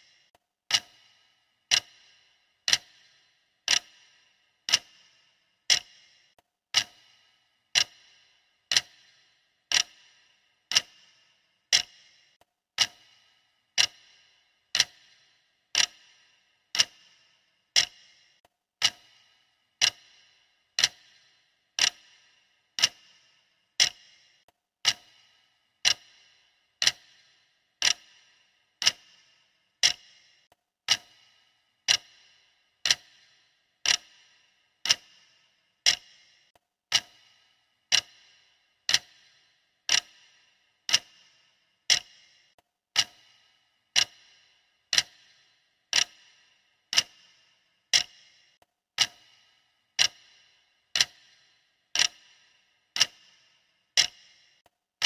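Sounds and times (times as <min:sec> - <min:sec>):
clock ticking: 0:00.0 - 0:54.7.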